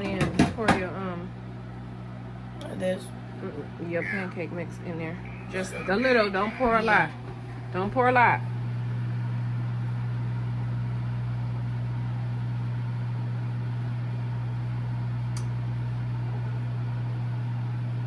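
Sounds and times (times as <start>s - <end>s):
fan motor humming: 0.0s - 18.0s.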